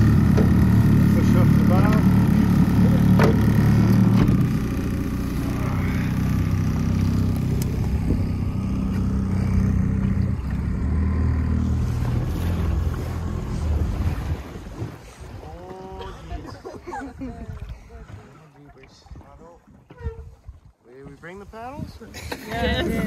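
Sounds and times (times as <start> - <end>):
boat engine droning: 0.0 - 20.7, 22.4 - 23.0.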